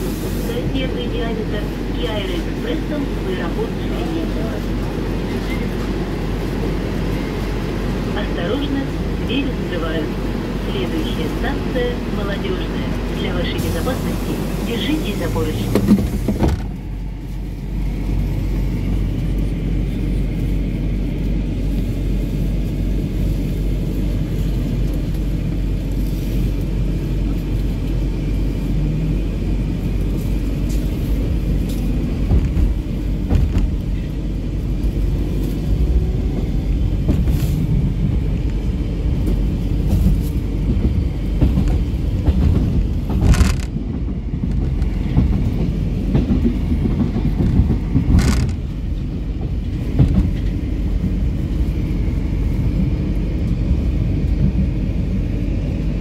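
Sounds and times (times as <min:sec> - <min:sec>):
metro train rumbling: 0:00.0 - 0:56.0.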